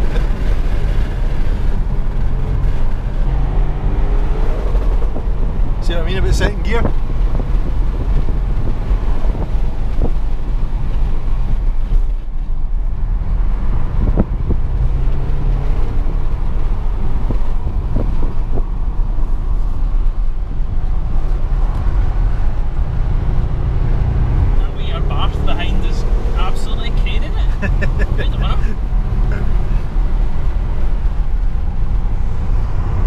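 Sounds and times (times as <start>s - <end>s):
car engine running: 0.0s - 33.0s
road and wind noise: 0.0s - 33.0s.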